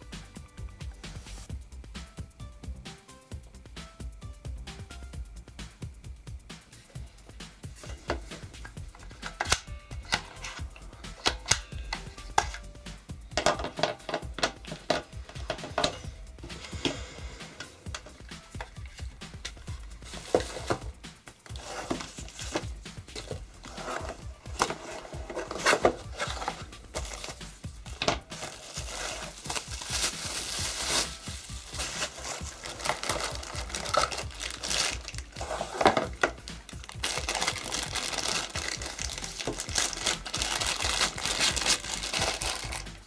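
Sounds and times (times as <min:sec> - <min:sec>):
background music: 0:00.0 - 0:43.0
crinkling and clicks of handling: 0:07.8 - 0:12.7, 0:13.3 - 0:43.0.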